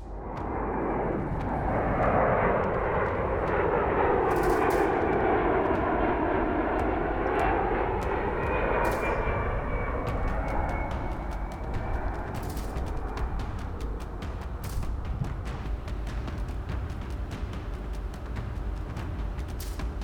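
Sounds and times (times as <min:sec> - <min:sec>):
aircraft engines droning: 0:00.0 - 0:20.0.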